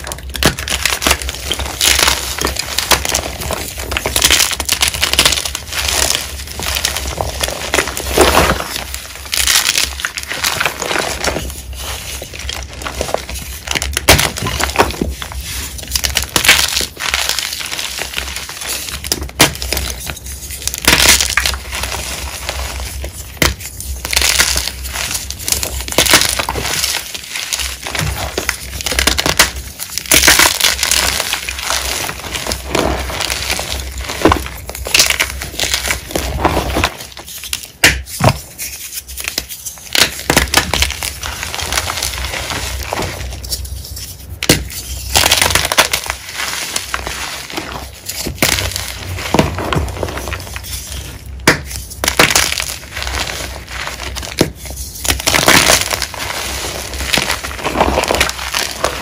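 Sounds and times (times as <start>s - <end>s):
chalk crunching and snapping: 0.0s - 59.0s.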